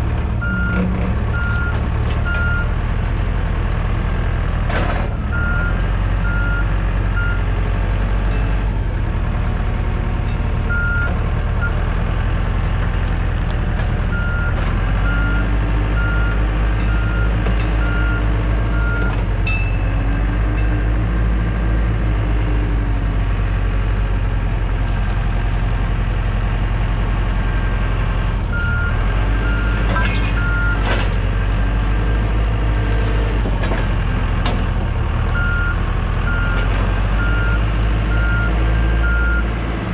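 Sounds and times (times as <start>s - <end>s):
heavy equipment engine running: 0.0s - 39.9s.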